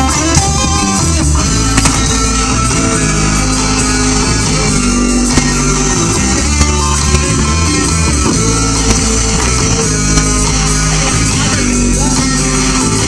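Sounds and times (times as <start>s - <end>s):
bass: 0.0s - 13.0s
distorted electric guitar: 0.0s - 13.0s
drums: 0.0s - 13.0s.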